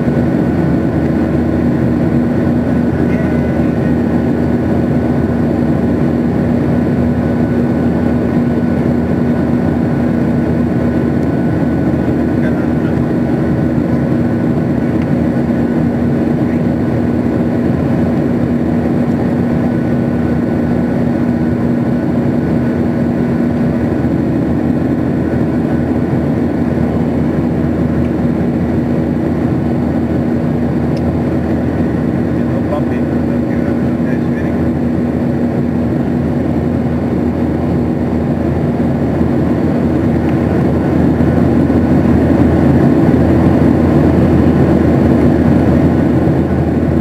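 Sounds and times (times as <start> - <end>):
airplane cabin engine drone: 0.0 - 47.0
low hum: 0.0 - 47.0.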